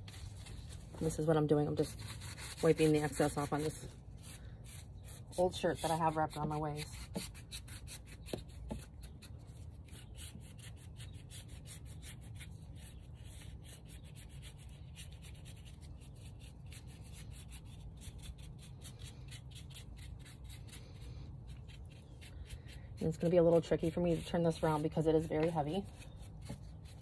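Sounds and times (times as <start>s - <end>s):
paintbrush scrubbing on concrete: 0.0s - 27.0s.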